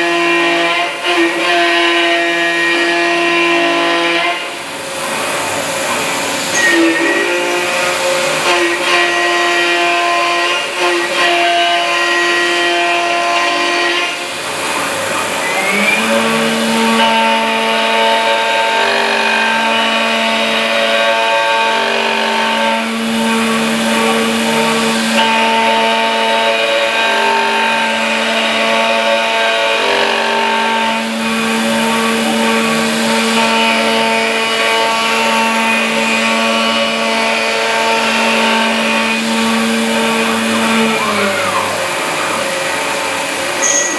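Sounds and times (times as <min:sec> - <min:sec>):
milling machine whine: 0:00.0 - 0:43.9.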